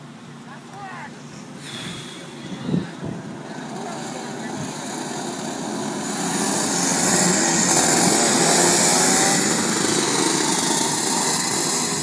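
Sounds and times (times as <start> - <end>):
kart engines passing by: 0.0 - 12.0.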